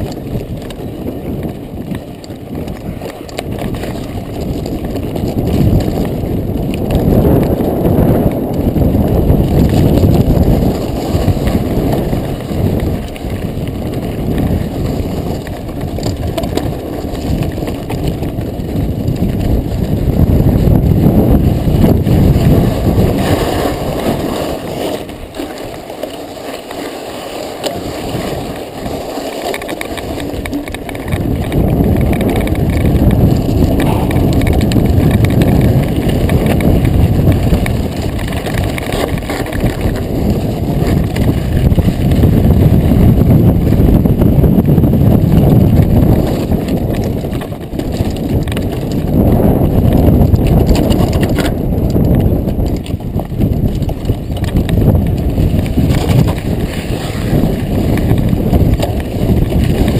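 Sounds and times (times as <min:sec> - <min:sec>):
bike rattling over rocky trail: 0:00.0 - 0:59.9
wind rumbling on microphone: 0:00.0 - 0:59.9.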